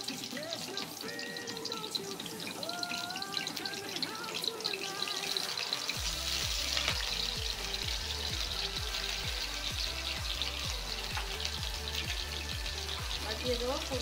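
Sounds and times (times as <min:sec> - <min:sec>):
background music with steady beat: 0:00.0 - 0:14.0
carrots sizzling in fat: 0:00.0 - 0:14.0.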